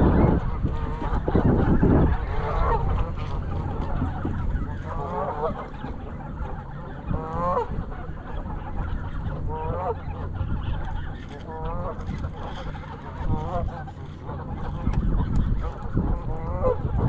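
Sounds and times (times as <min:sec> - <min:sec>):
geese honking: 0:00.0 - 0:17.0
steady low rumble: 0:00.0 - 0:17.0.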